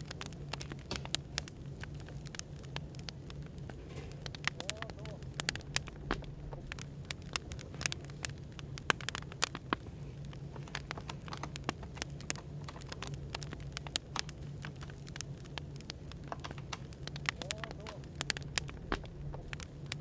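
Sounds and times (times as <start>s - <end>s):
low background hum: 0.0s - 20.0s
wood fire crackling: 0.0s - 20.0s.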